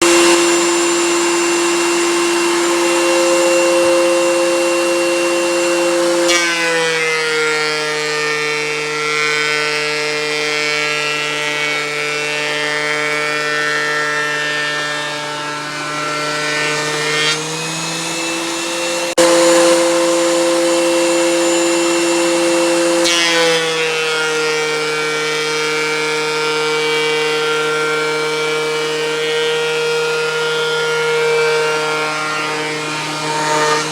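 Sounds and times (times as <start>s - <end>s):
electric wood planer whining: 0.0s - 33.9s.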